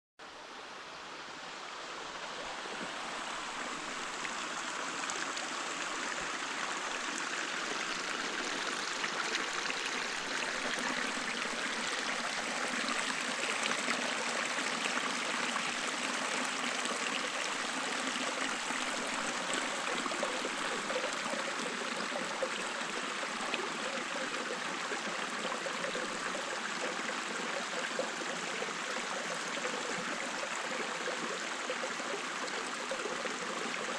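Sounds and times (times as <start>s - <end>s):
stream trickling over rocks: 0.2s - 33.9s.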